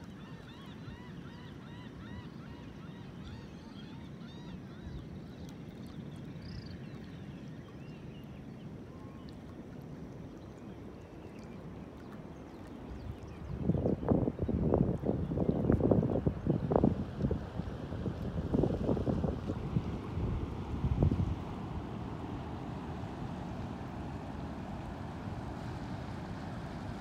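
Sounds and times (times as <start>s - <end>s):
rush of wind and water: 0.0s - 27.0s.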